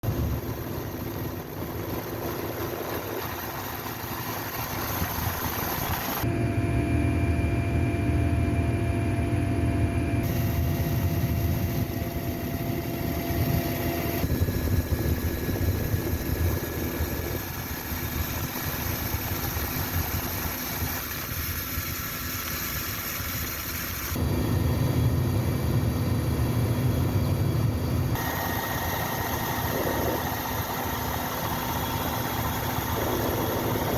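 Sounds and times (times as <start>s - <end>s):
helicopter engines: 0.0s - 33.9s.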